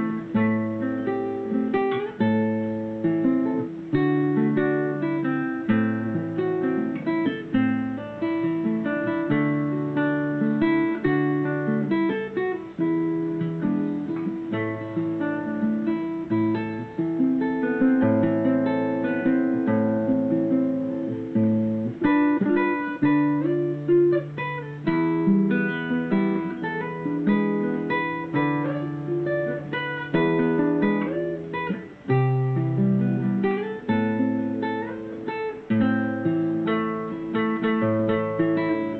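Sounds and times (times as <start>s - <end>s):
fingerpicked classical guitar: 0.0s - 38.9s.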